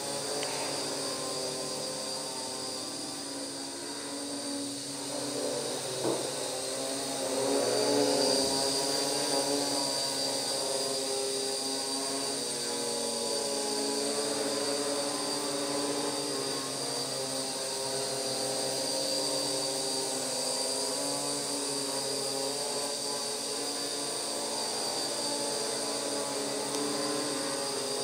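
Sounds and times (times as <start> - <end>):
quadcopter motors buzzing: 0.0 - 28.0.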